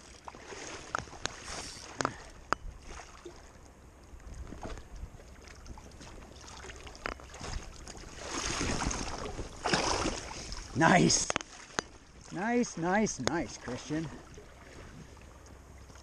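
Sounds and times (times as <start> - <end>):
river water sloshing against rocks: 0.0 - 16.0.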